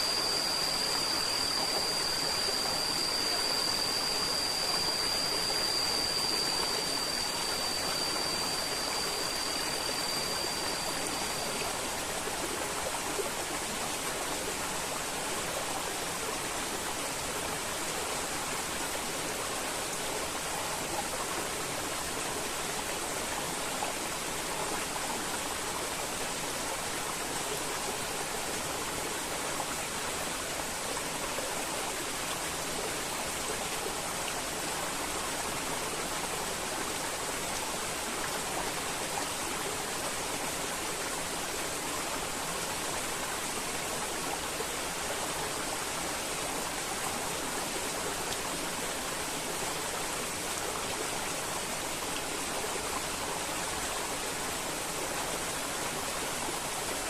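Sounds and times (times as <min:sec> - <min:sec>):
steady high-pitched tone: 0:00.0 - 0:57.0.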